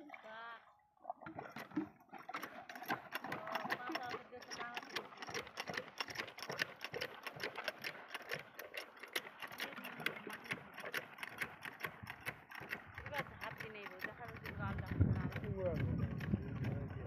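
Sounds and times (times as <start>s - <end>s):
machine clicking rattle: 2.3s - 17.0s.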